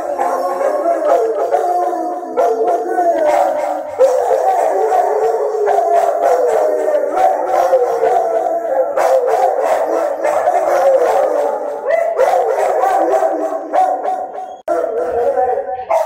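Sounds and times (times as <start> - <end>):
dogs howling: 0.0 - 16.0.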